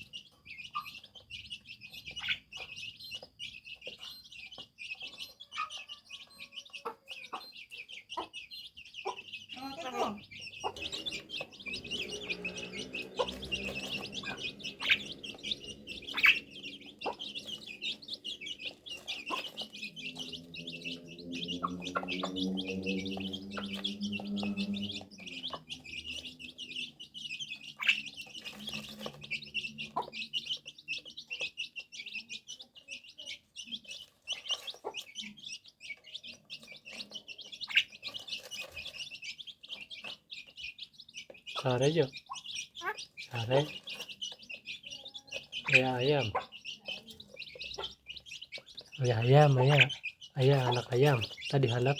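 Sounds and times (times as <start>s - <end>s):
high-pitched bird chirping: 0.0s - 51.9s.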